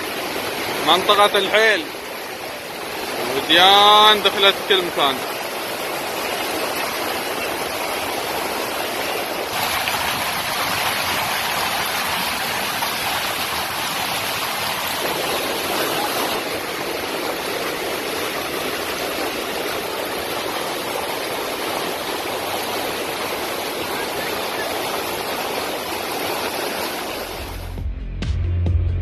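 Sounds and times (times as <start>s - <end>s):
floodwater rushing across road: 0.0s - 27.8s.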